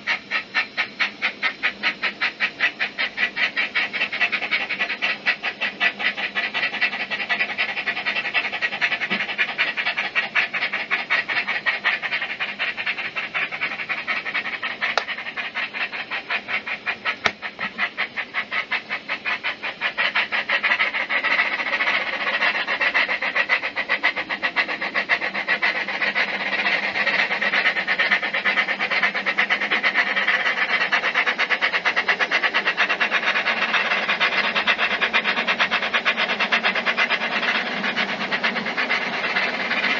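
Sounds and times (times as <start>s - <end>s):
steam locomotive chuffing on speaker: 0.0s - 39.9s.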